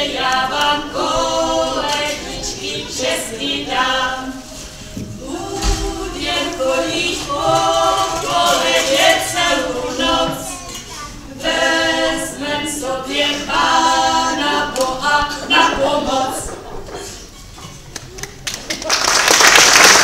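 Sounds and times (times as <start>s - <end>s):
women singing unaccompanied: 0.0s - 10.6s, 11.3s - 17.3s.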